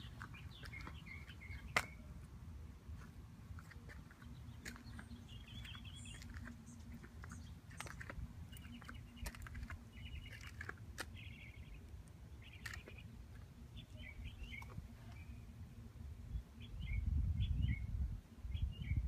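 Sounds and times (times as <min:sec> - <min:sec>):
low wind rumble: 0:00.0 - 0:19.0
small birds chirping: 0:00.0 - 0:19.0.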